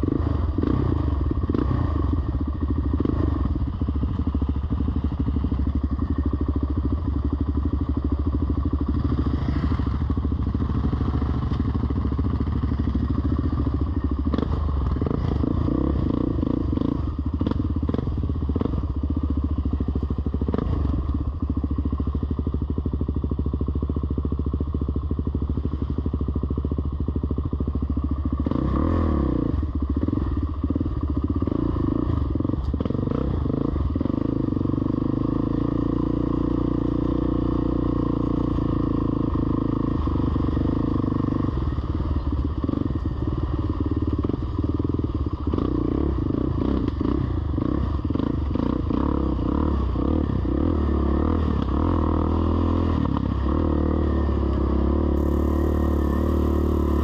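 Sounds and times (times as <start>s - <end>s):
off-road vehicle engine running: 0.0s - 57.0s.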